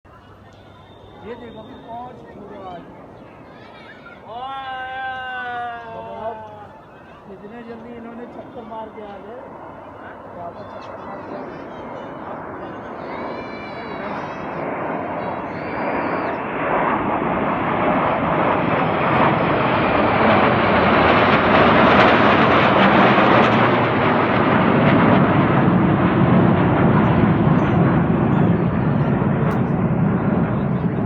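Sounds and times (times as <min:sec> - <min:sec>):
jet aircraft flying overhead: 0:00.1 - 0:31.0.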